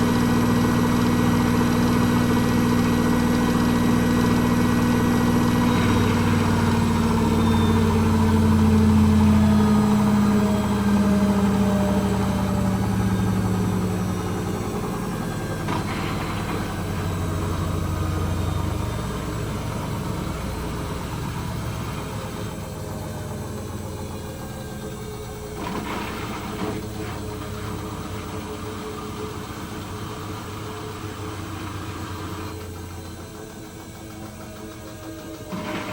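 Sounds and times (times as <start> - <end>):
washing machine winding down: 0.0 - 35.9.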